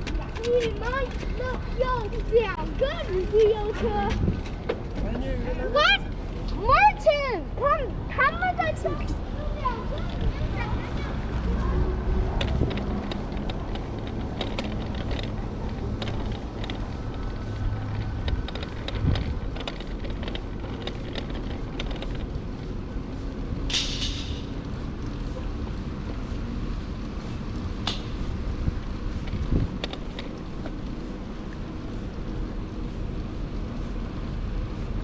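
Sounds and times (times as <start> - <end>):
wind rumble: 0.0 - 5.2, 5.8 - 35.0
road noise while cycling: 0.0 - 35.0.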